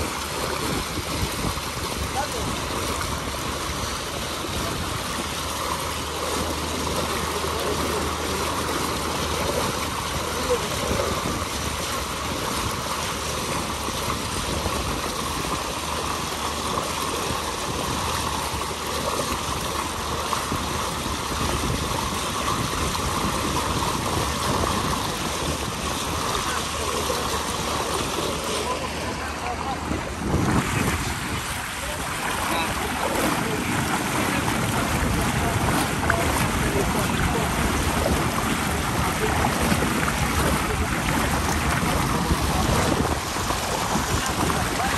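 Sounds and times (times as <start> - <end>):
boat engine drone: 0.0 - 44.9
rushing propeller wash: 0.0 - 44.9
wind: 0.0 - 44.9.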